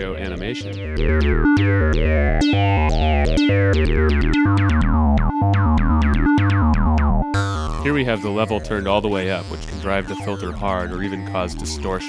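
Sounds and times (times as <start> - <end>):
acid synth bassline: 0.0 - 12.0.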